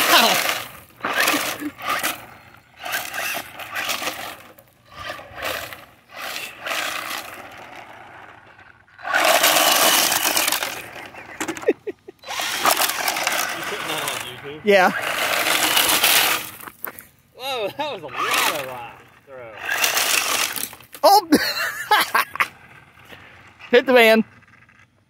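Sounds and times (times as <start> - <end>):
gravel crunching and spraying: 0.0 - 25.0
rc car wheels spinning: 0.0 - 25.0.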